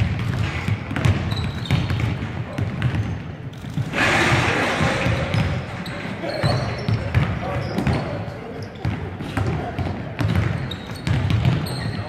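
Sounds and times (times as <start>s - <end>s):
basketballs bouncing on wooden floor: 0.0s - 12.0s.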